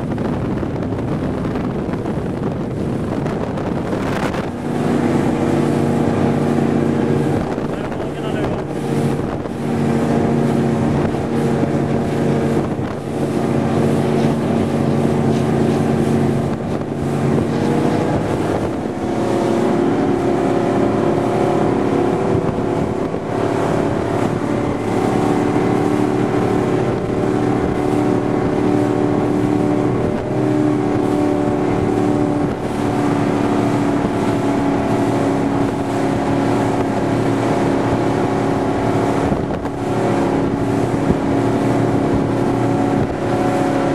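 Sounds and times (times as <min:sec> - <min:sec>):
powerboat engine running hard: 0:00.0 - 0:43.9
wind on microphone: 0:00.0 - 0:43.9.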